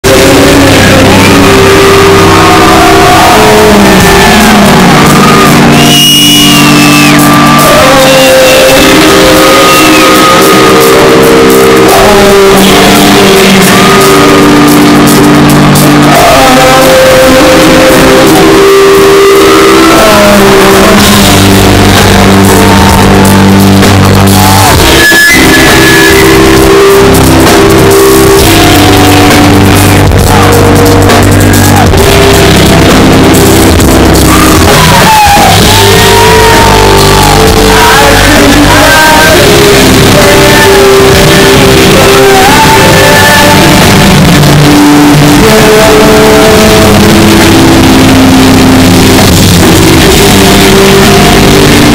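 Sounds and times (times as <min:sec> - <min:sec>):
electric guitar: 0:00.0 - 0:51.9
man singing and shouting: 0:00.0 - 0:51.9
metal band playing live: 0:00.0 - 0:51.9.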